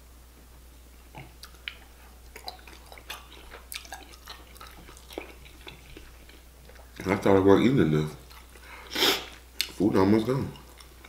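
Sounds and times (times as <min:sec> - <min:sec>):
person chewing wetly: 0:01.1 - 0:11.0.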